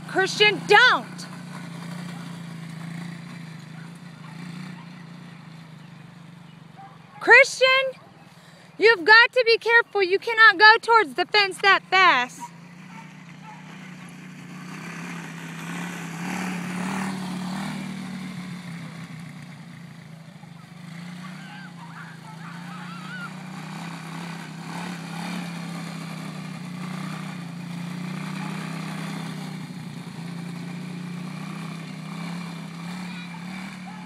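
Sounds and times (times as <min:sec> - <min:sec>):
atv engine running: 0:00.0 - 0:34.0.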